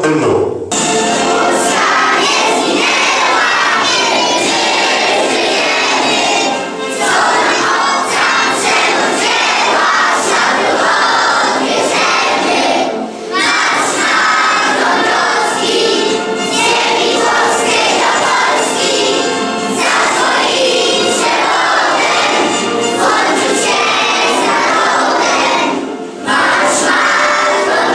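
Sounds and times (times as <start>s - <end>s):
children's choir singing: 0.8s - 27.9s.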